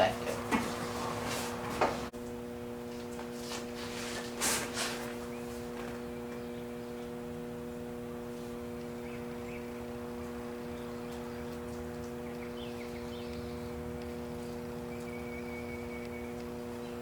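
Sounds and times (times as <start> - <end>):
steady hum of fixed tones: 0.0 - 17.0.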